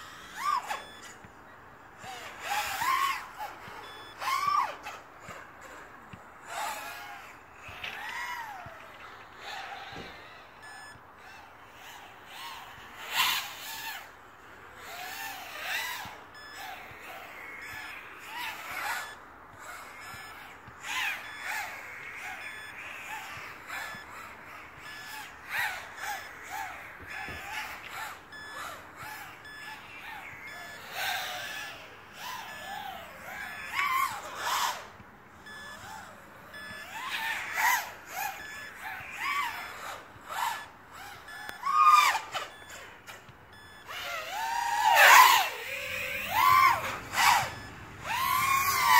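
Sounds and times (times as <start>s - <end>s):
racing drone motors whining: 0.0s - 48.9s.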